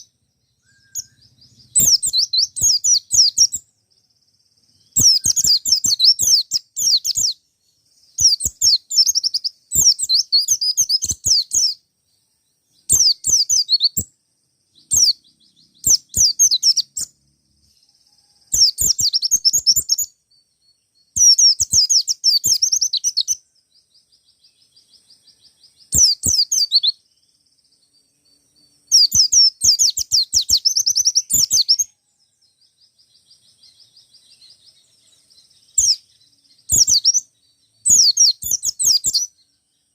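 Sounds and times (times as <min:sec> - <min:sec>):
bird singing high twittering: 0:00.0 - 0:39.9
faint soft twittering: 0:00.0 - 0:39.9.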